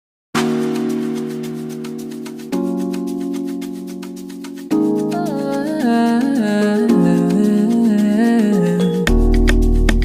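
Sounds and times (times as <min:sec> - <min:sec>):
light beat: 0:00.4 - 0:10.0.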